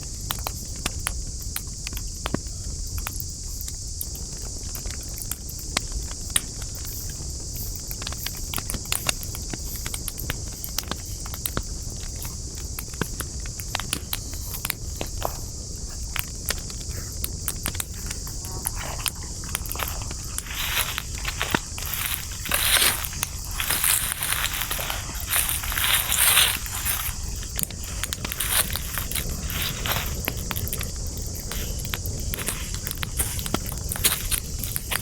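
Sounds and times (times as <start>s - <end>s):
campfire crackles and pops: 0.0s - 35.0s
high-pitched hiss: 0.0s - 35.0s
low rumble of flame: 0.0s - 35.0s.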